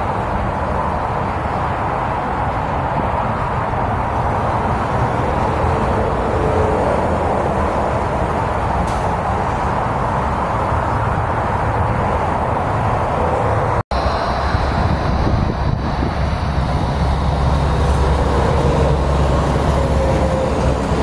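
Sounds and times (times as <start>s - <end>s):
highway traffic rushing: 0.0s - 21.0s.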